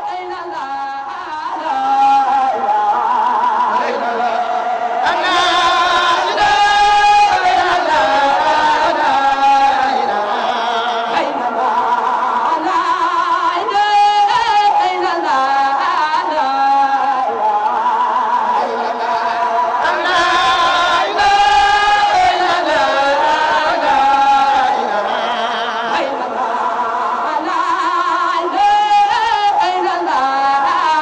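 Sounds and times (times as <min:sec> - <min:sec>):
chanted singing: 0:00.0 - 0:31.0.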